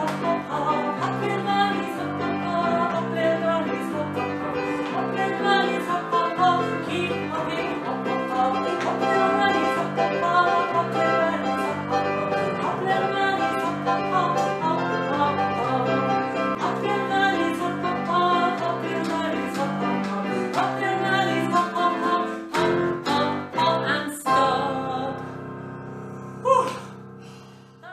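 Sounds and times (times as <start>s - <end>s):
woman singing: 0.0s - 25.4s
electric keyboard song: 0.0s - 26.5s.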